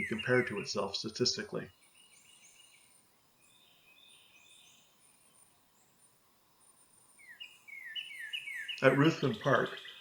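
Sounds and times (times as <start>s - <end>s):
high songbird notes: 0.0s - 10.0s
lower bird song phrase: 0.0s - 10.0s.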